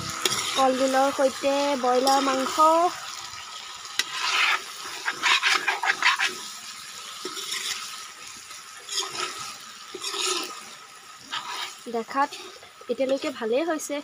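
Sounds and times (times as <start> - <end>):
metal spatula scraping wok: 0.0 - 3.2, 3.9 - 13.4
food sizzling: 0.0 - 14.0.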